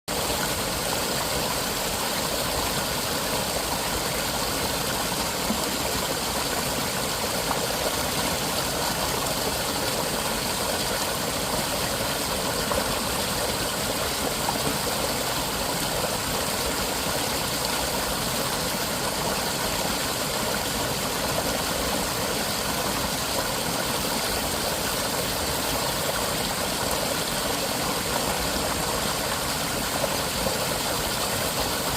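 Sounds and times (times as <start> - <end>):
rain: 0.1 - 31.9
stream rushing: 0.1 - 31.9.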